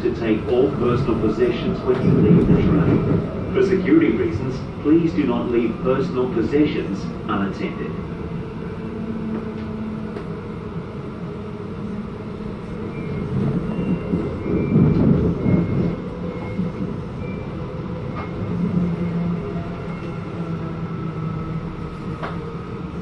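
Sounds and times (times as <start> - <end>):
train interior rumble: 0.0 - 23.0.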